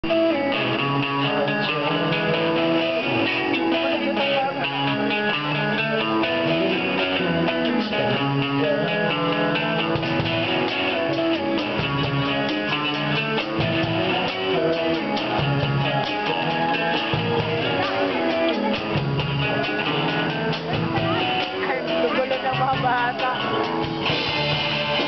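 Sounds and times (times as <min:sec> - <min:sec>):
electric guitar chords: 0:00.0 - 0:25.0
steady drum beat: 0:00.0 - 0:25.0.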